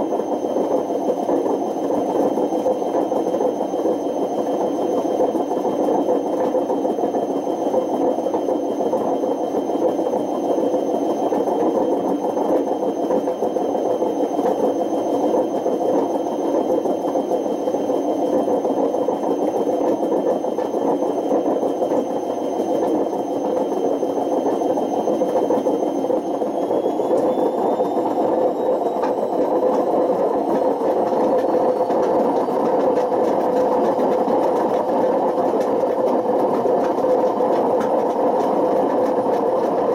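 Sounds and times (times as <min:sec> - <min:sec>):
washing machine roaring: 0:00.0 - 0:39.9.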